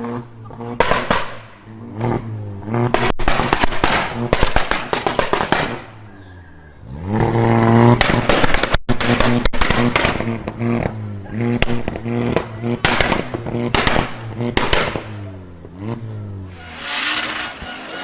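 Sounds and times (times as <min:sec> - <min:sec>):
exhaust pops and crackles: 0:00.0 - 0:06.2, 0:07.1 - 0:16.1
car engine revving: 0:00.0 - 0:18.0.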